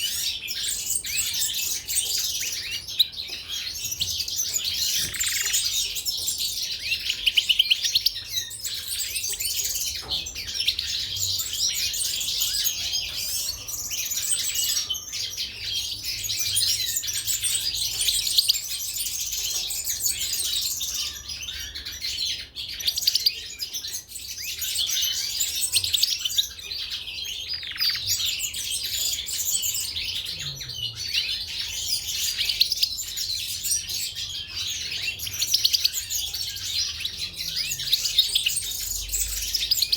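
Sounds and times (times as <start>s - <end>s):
caged songbirds singing: 0.0s - 39.9s.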